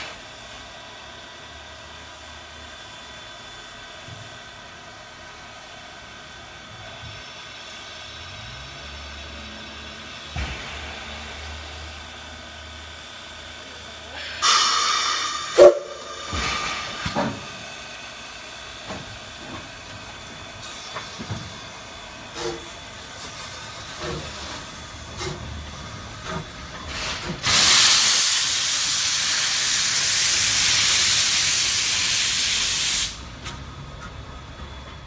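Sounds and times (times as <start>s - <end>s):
locomotive steam hissing: 0.0s - 35.0s.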